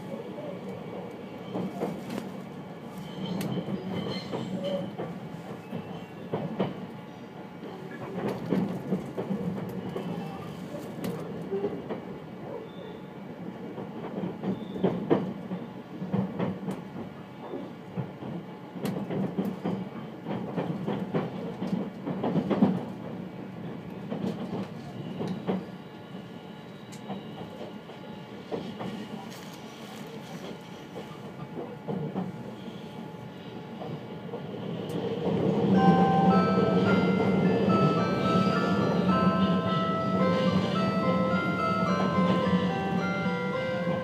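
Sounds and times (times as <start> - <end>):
train rumble inside carriage: 0.0 - 44.0.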